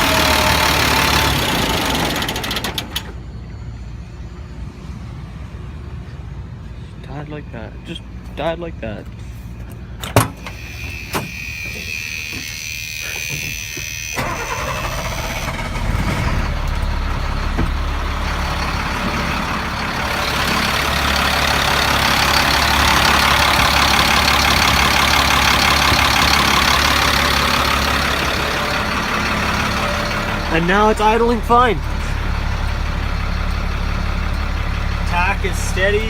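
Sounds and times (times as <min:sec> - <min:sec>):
diesel engine cranking and running: 0:00.0 - 0:03.6, 0:09.7 - 0:36.0.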